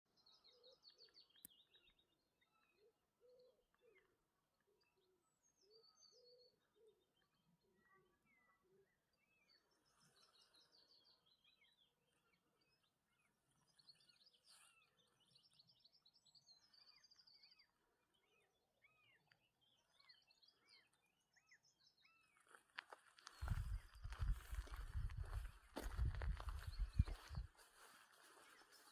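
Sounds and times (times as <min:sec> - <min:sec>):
birds trilling and chirping: 0:02.4 - 0:28.9.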